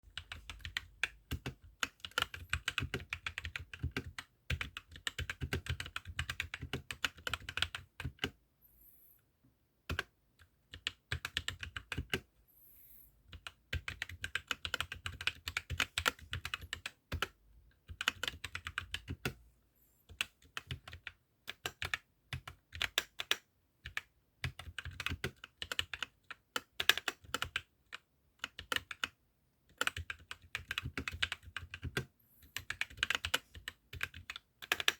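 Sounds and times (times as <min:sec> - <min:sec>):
mechanical keyboard typing: 0:00.1 - 0:08.4, 0:09.9 - 0:12.3, 0:13.3 - 0:19.4, 0:20.1 - 0:34.9.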